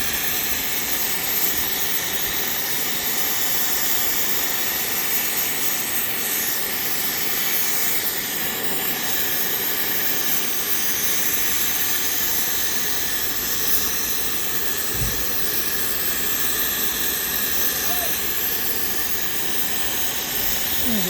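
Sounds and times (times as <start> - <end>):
cutting torch hissing: 0.0 - 21.0.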